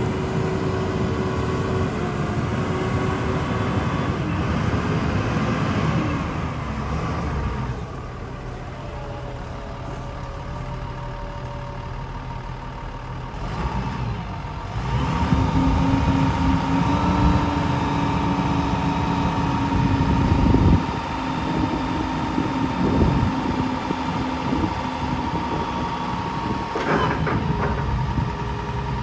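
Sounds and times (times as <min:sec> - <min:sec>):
forklift diesel engine running: 0:00.0 - 0:29.0.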